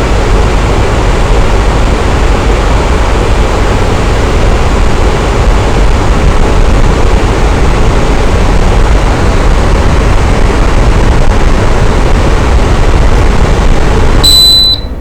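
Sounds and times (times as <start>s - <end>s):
electric fan whooshing: 0.0s - 15.0s.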